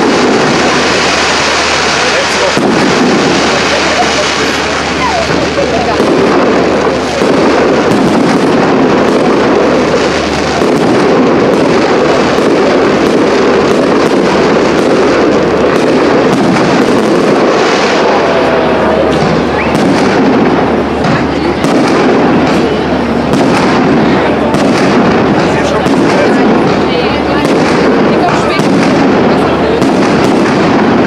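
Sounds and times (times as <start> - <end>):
fireworks bursting: 0.0 - 31.0
fireworks crackling: 0.0 - 31.0.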